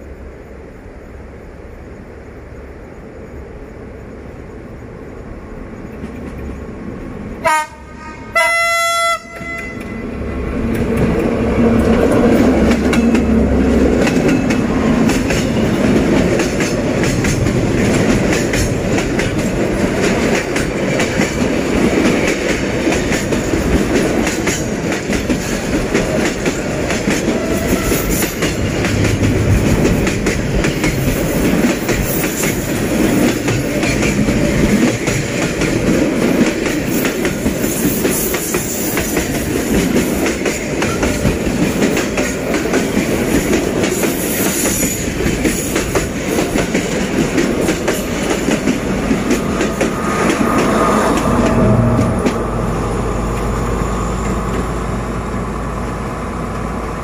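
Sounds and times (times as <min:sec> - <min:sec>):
train wheels rolling on rails: 0:00.0 - 0:07.9, 0:08.9 - 0:57.0.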